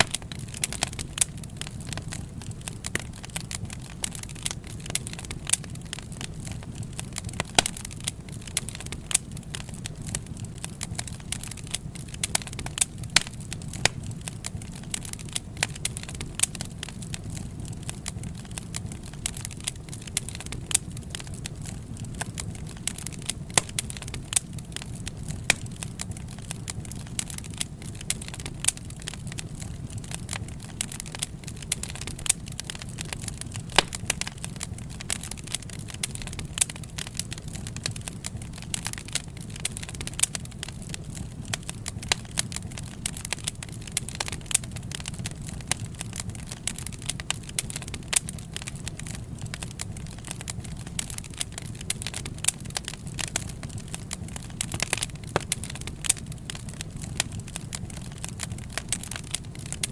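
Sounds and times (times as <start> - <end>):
low rumble of burning: 0.0 - 59.9
wood fire crackling and popping: 0.0 - 59.9.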